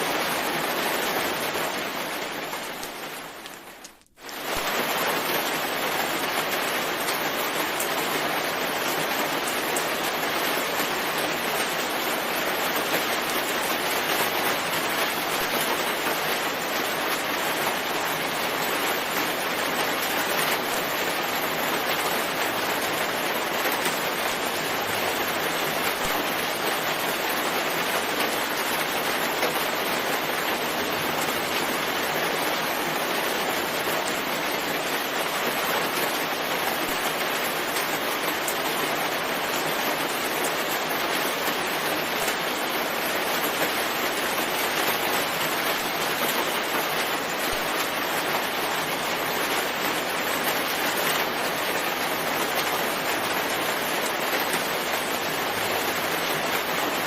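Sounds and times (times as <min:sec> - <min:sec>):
rain falling on forest: 0:00.0 - 0:57.0.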